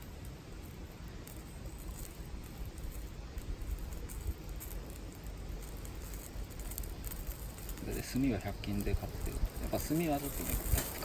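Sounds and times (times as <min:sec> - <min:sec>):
fire crackling and popping: 0:00.0 - 0:11.0
wind rumble on microphone: 0:00.0 - 0:11.0.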